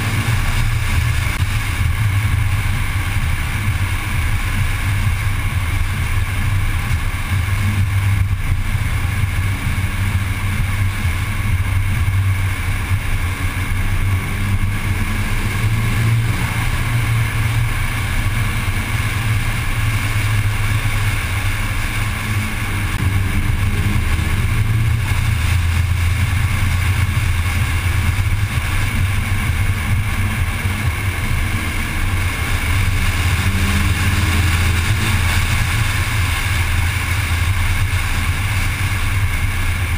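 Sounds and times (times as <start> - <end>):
car engine drone: 0.0 - 39.9
tyre and road noise: 0.0 - 39.9.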